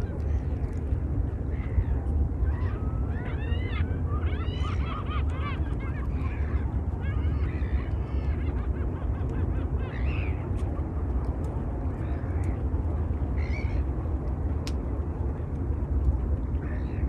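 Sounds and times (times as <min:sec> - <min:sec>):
waterbirds calling: 0:00.0 - 0:13.9
steady low rumble: 0:00.0 - 0:17.0.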